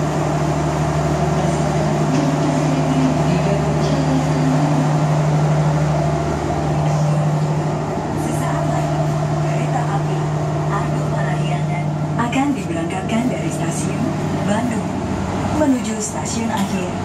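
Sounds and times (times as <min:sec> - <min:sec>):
train low mechanical drone: 0:00.0 - 0:17.0.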